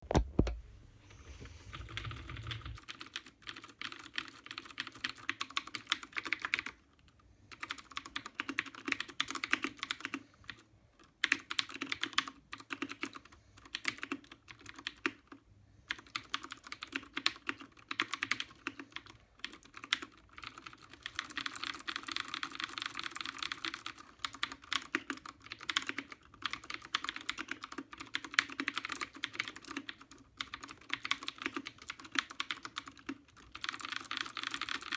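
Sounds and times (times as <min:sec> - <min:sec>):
fast typing on mechanical keyboard: 0:01.7 - 0:34.9.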